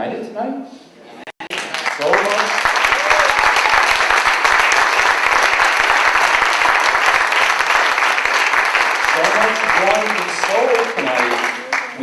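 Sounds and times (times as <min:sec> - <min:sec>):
crowd applauding: 0:01.4 - 0:12.0.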